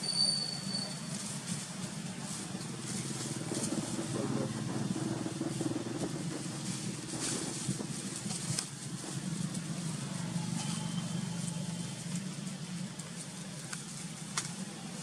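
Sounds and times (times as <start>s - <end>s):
dry leaves rustling: 0.3s - 15.0s
low mechanical hum: 0.8s - 15.0s.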